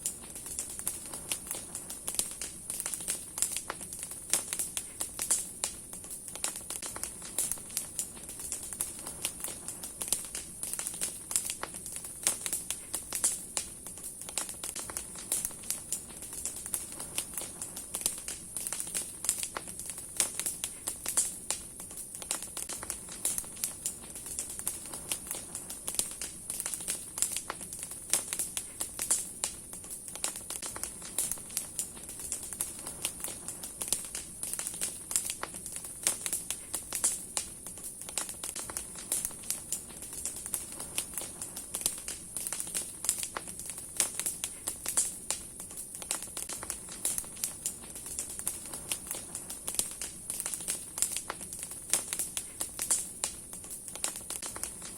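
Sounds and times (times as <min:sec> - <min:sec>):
bonfire crackling and popping: 0:00.0 - 0:54.9
fire hissing: 0:00.0 - 0:54.9.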